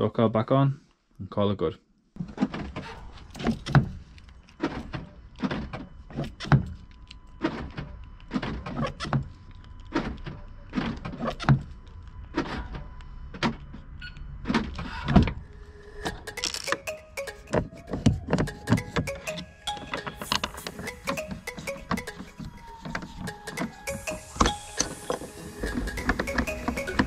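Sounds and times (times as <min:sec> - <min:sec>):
door lock clunks and motor whirs: 0:02.3 - 0:27.0.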